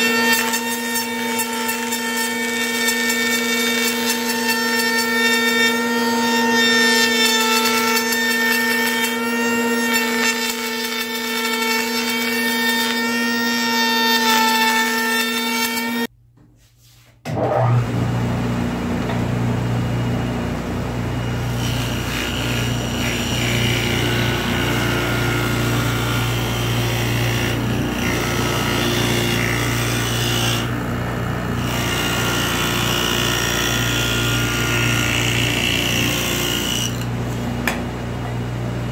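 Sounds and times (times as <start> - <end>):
router cutting plywood: 0.0 - 16.1, 17.3 - 37.5
table saw ripping wood: 0.0 - 16.1, 21.1 - 37.6.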